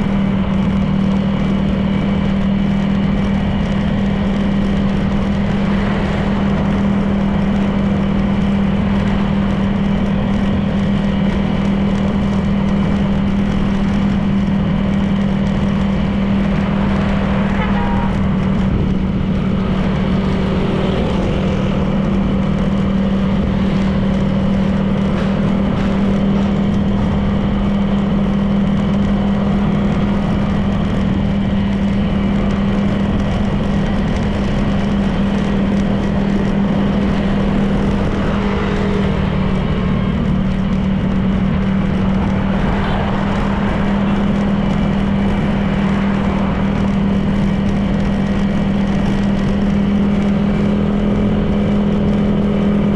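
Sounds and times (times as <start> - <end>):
road noise: 0.0 - 52.9
scooter engine droning: 0.0 - 52.9.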